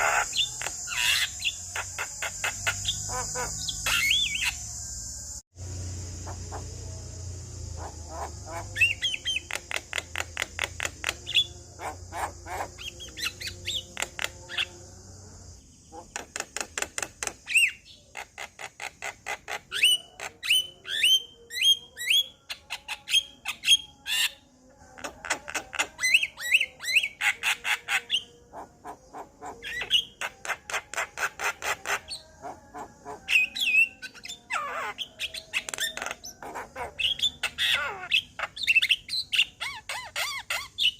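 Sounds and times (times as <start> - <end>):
myna bird singing: 0.0 - 40.9.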